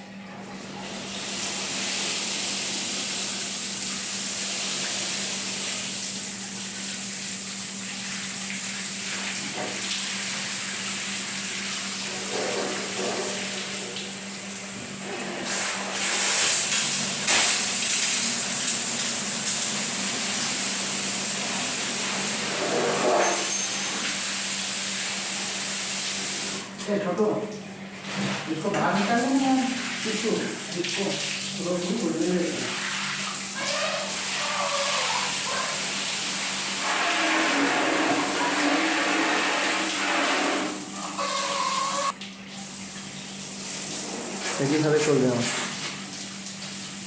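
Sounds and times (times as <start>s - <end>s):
water running: 0.3s - 47.0s.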